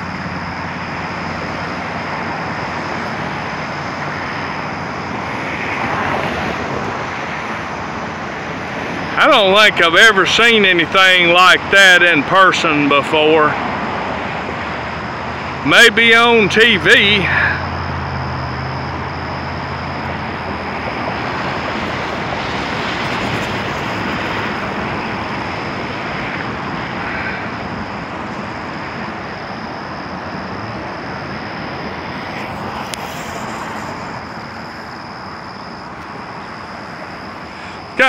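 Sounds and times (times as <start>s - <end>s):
rushing outdoor noise: 0.0s - 38.0s.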